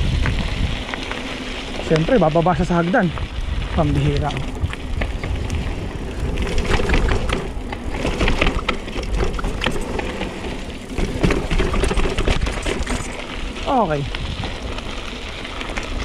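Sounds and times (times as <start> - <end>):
bike rattling and knocking: 0.0 - 16.0
tyres crunching over stones: 0.0 - 16.0.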